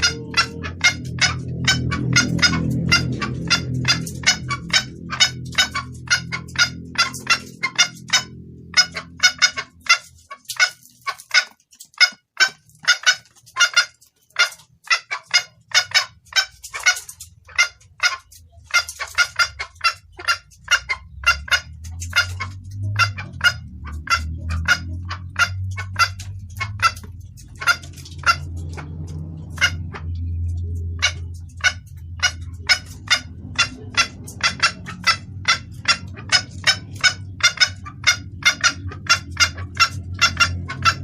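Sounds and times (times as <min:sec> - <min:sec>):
low steady hum: 0:00.0 - 0:11.1, 0:15.4 - 0:41.0
hen clucking: 0:00.0 - 0:41.0.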